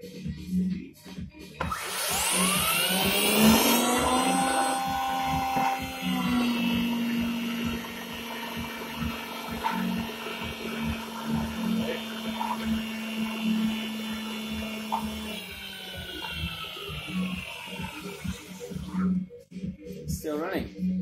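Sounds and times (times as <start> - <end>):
electric motor whine: 1.6 - 19.1
higher motor tone: 1.6 - 19.3.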